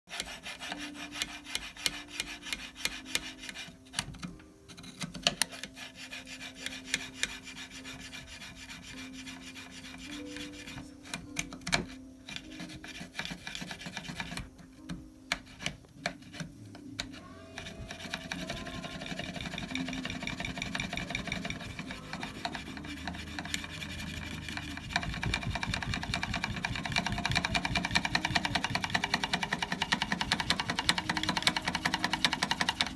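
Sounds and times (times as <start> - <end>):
gritty metal rasping: 0.1 - 32.9.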